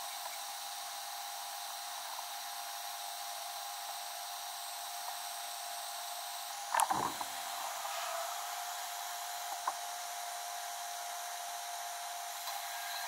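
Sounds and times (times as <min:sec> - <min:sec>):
heat gun fan whining: 0:00.0 - 0:13.0.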